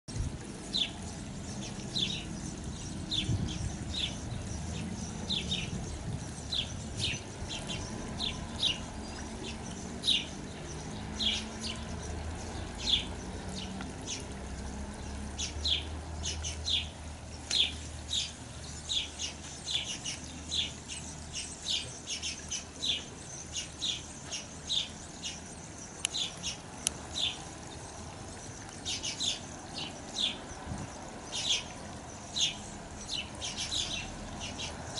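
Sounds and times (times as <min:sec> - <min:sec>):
sparrows chirping: 0:00.1 - 0:34.9.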